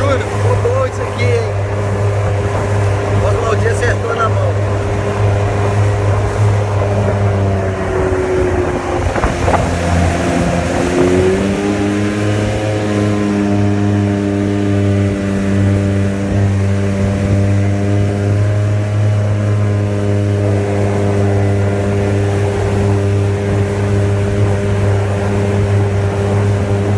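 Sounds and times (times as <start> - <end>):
jet boat engine running: 0.0 - 26.9.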